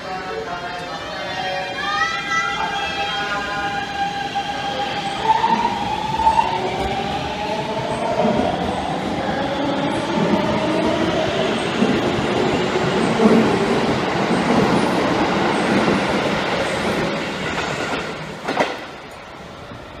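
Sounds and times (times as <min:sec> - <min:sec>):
train wheels on rail: 0:03.0 - 0:20.0.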